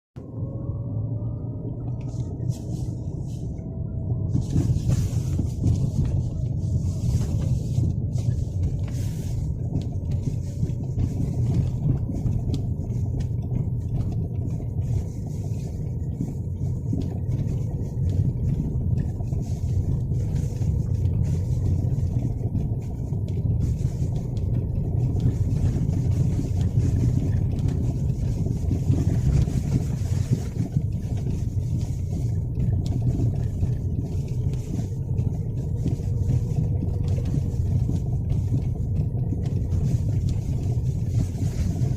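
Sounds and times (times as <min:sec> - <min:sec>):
car driving low rumble: 0:00.2 - 0:41.9.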